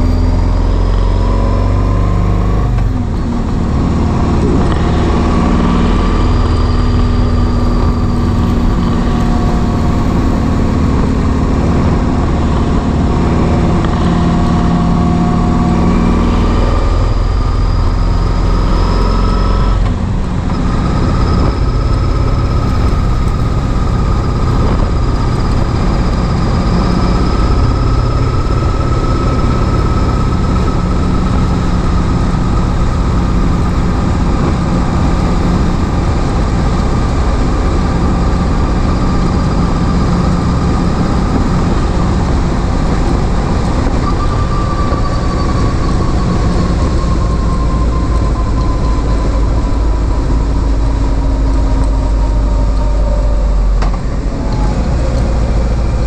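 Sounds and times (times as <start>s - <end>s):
motorcycle engine at road speed: 0.0s - 56.0s
road noise: 0.0s - 56.0s.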